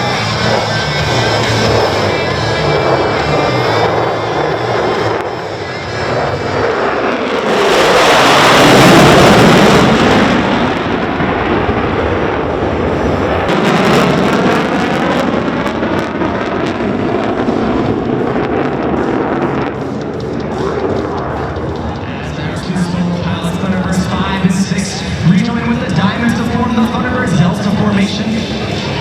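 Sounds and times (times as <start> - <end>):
fighter jet roaring past: 0.0 - 29.0.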